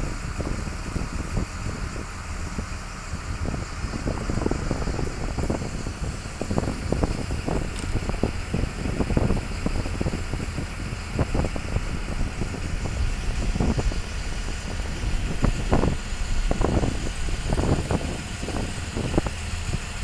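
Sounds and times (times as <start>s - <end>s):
boat engine running: 0.0s - 20.0s
wind buffeting microphone: 0.0s - 20.0s.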